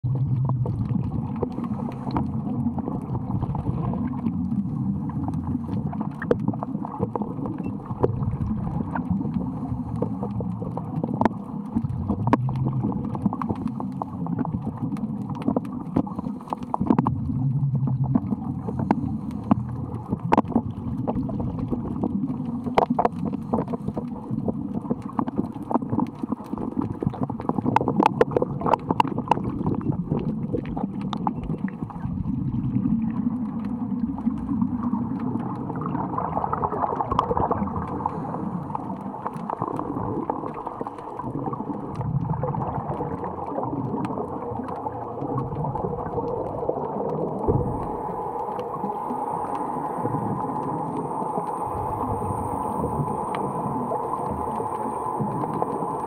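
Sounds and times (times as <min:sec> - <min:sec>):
muffled underwater rumble: 0:00.0 - 0:56.0
sharp underwater clicks: 0:00.4 - 0:32.2, 0:33.2 - 0:56.0.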